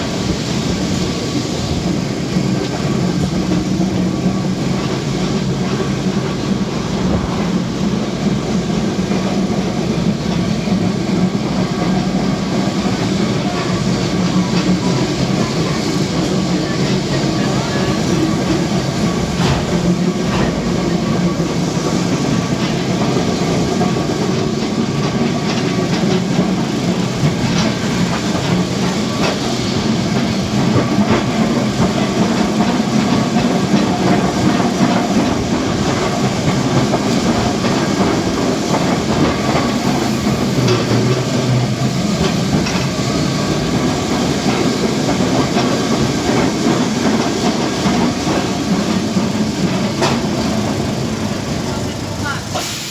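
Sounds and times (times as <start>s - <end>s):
tram rumbling on rails: 0.0s - 52.9s
wheels clacking over track: 0.0s - 52.9s.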